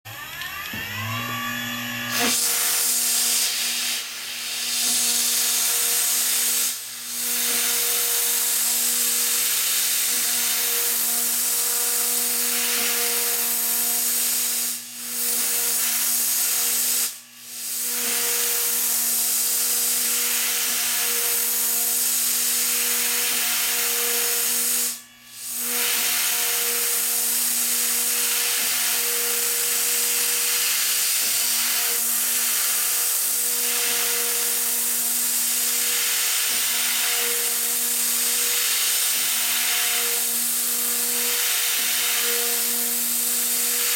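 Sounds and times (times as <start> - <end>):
machine spindle whine and hiss: 0.1 - 43.9.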